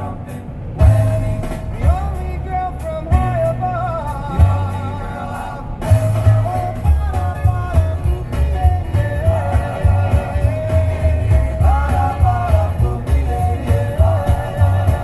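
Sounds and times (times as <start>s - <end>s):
man singing rock song: 0.0s - 15.0s
pulsing bass line: 0.0s - 15.0s.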